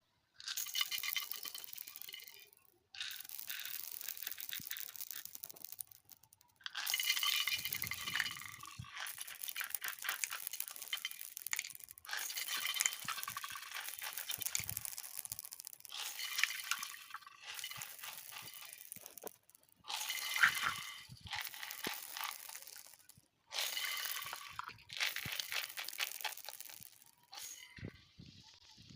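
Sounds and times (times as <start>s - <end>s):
small beads pouring and clattering: 0.4s - 28.9s.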